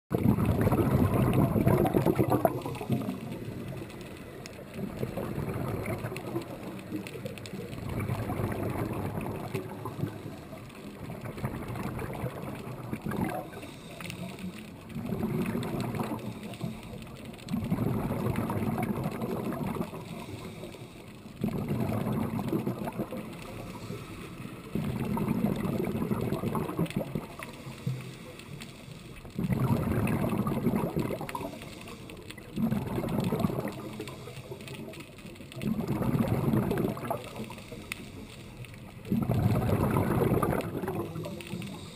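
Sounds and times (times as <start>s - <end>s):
scuba regulator bubbling underwater: 0.1s - 28.2s, 29.2s - 41.9s.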